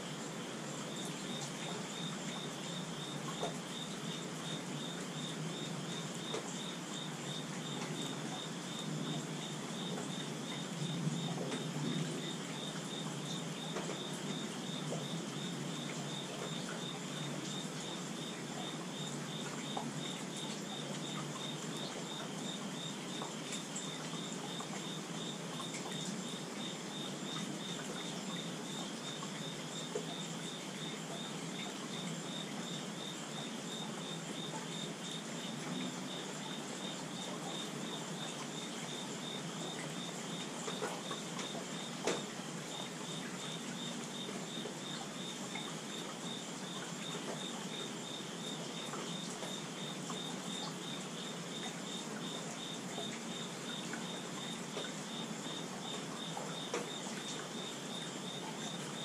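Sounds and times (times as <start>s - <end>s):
insect chirping: 0.0s - 59.0s
steady rainfall: 0.0s - 59.0s.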